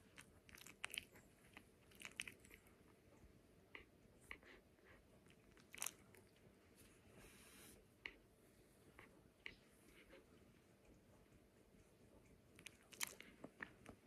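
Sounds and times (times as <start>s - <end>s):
puppy smacking lips: 0.0s - 6.4s, 8.9s - 14.0s.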